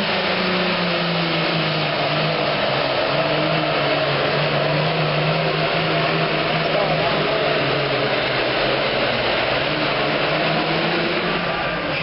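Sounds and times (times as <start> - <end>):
diesel tractor engine running hard: 0.0 - 12.0.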